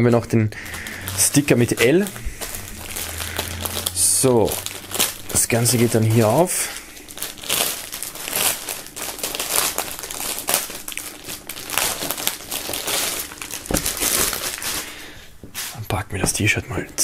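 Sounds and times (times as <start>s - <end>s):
plastic bag crinkling: 0.5s - 15.8s.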